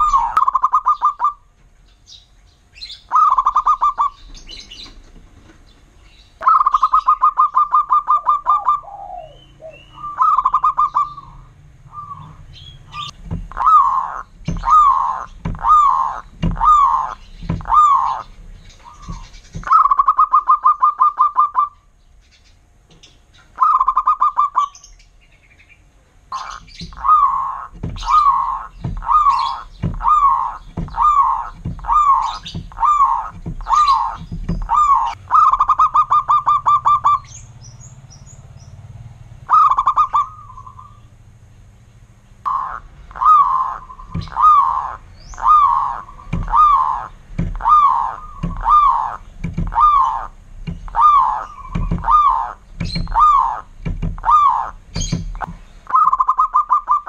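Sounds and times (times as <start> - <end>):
dove cooing: 0.0 - 1.5, 2.9 - 5.2, 6.4 - 21.9, 23.5 - 24.8, 26.3 - 37.5, 39.4 - 41.1, 42.4 - 57.0
dove rolling trills: 0.0 - 1.5, 2.2 - 21.9, 23.4 - 25.1, 26.3 - 38.6, 39.4 - 41.2, 42.4 - 57.0.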